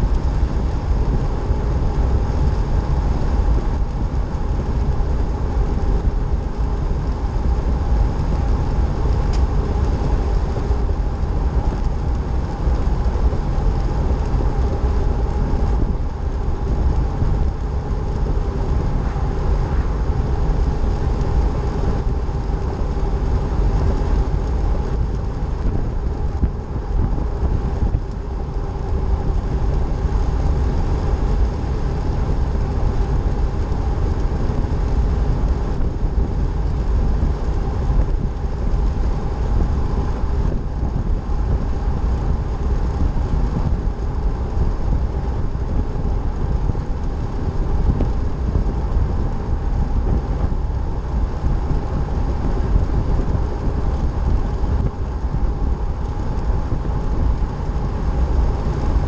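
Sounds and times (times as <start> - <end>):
faint drivetrain hum: 0.0 - 59.0
road and wind noise: 0.0 - 59.0.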